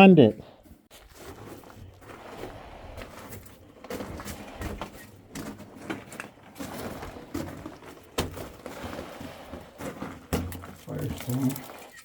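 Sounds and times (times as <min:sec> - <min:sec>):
rustling of gear: 0:00.9 - 0:12.0
scuffs on rock: 0:00.9 - 0:12.0.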